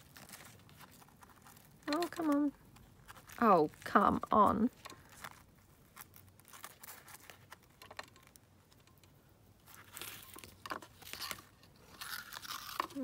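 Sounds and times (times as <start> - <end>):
ribbon rustling: 0.0 - 13.0.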